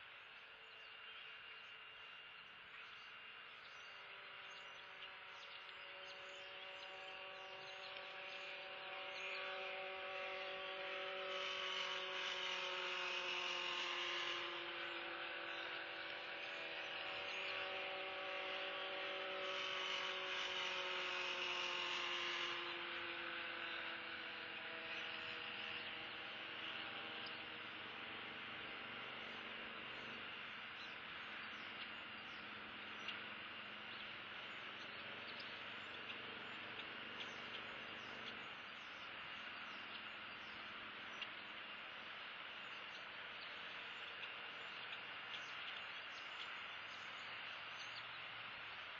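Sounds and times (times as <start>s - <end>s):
distant engine drone: 0.0s - 48.9s.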